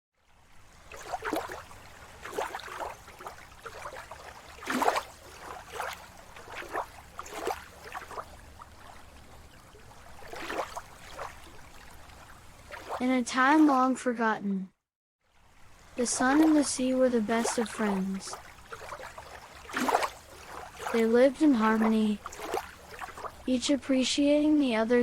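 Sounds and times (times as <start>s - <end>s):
sea water lapping: 0.3s - 14.0s, 15.3s - 24.6s.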